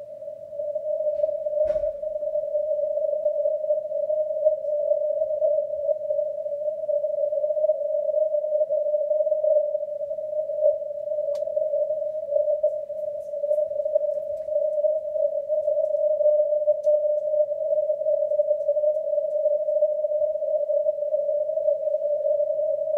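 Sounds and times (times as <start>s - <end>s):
radio static hiss-tone: 0.0s - 22.9s.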